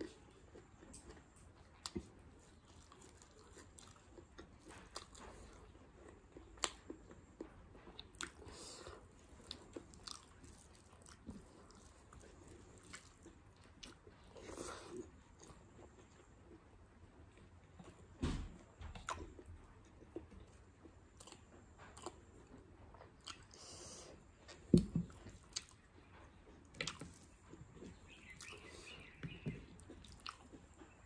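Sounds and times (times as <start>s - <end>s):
person chewing food: 0.0s - 18.1s, 18.9s - 31.0s.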